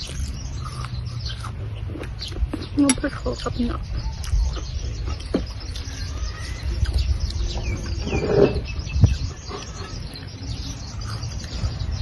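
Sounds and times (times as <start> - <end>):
small birds chirping: 0.0 - 12.0
wind rumble on microphone: 1.9 - 12.0.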